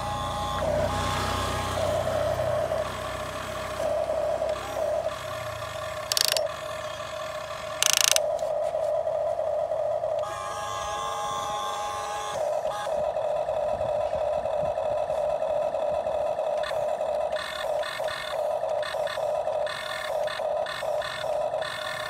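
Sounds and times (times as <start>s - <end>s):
small electric motor whining: 0.0s - 8.8s, 10.1s - 22.0s.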